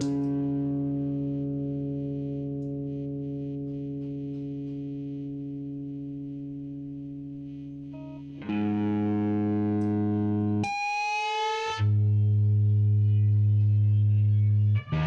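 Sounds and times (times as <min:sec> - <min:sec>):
distorted electric guitar chords: 0:00.0 - 0:15.0.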